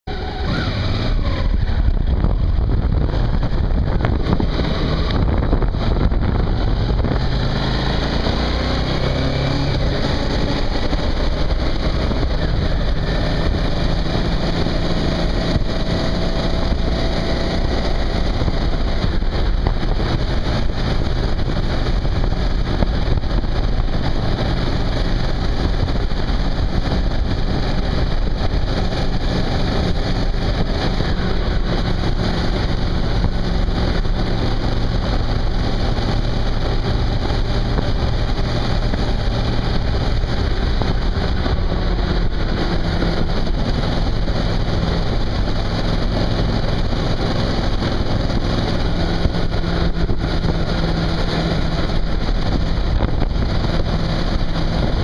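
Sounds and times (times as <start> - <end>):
motorcycle engine running: 0.0 - 55.0
wind rushing over microphone: 0.1 - 55.0.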